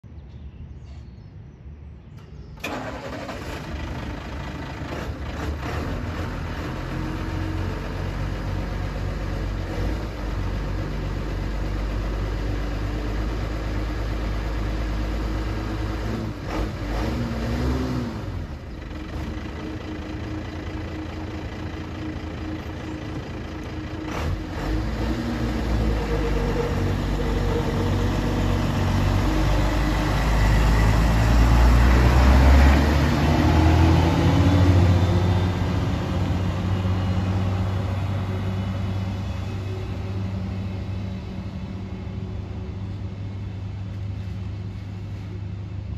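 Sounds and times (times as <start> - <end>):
diesel bus engine idling: 2.2 - 17.0, 18.2 - 45.9.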